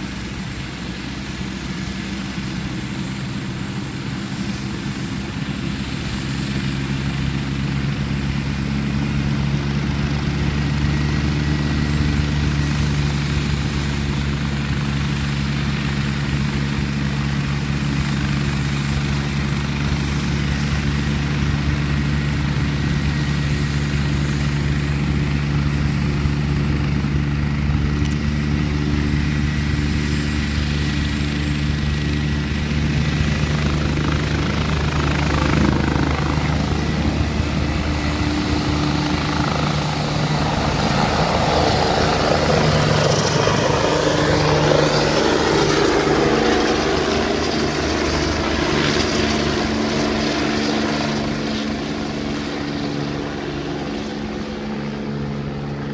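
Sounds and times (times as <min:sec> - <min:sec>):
helicopter turbine and rotor: 0:00.0 - 0:55.9.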